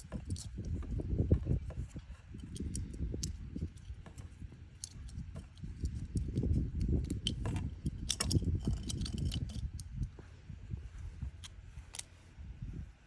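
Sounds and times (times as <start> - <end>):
low thumps and rubbing: 0.0 - 13.0.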